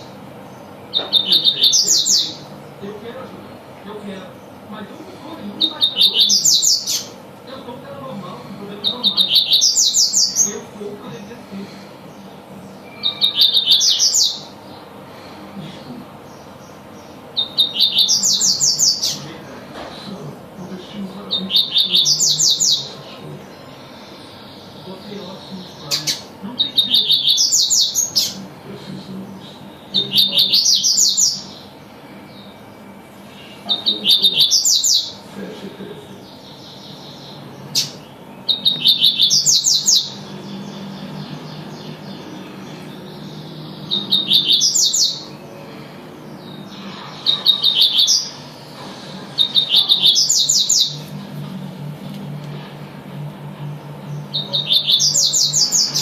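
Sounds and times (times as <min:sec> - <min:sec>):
bird song phrases: 0:00.0 - 0:56.0.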